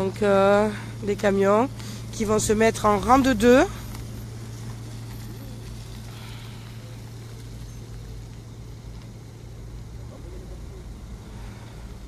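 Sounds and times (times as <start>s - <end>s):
faint outdoor noise: 0.0s - 12.0s
van engines idling: 0.0s - 12.0s.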